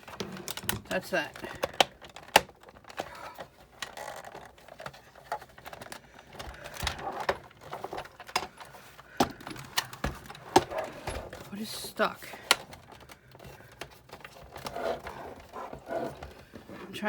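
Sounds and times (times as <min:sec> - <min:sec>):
machine parts clicking and knocking: 0:00.0 - 0:16.3
rustling handling noise: 0:00.0 - 0:17.0.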